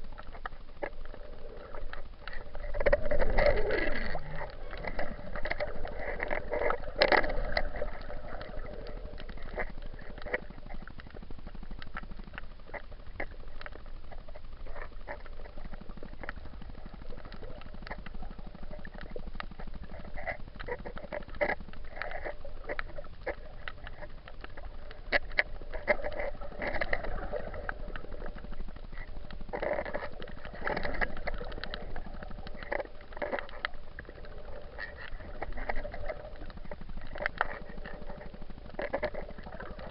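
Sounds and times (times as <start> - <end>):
muffled underwater splashing: 0.0 - 39.9.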